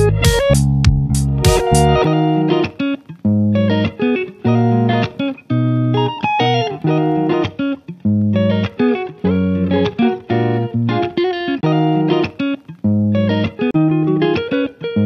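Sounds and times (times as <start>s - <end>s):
plucked instrumental music: 0.0s - 15.0s.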